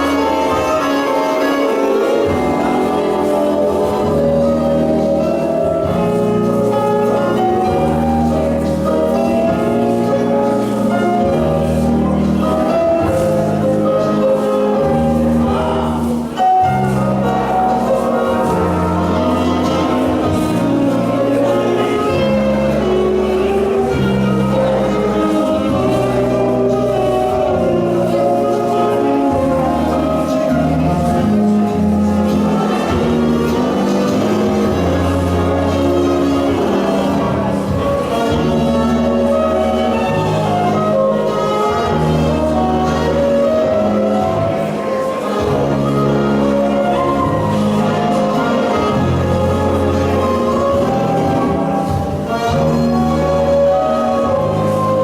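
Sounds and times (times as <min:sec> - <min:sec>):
ballroom dance music: 0:00.0 - 0:55.0.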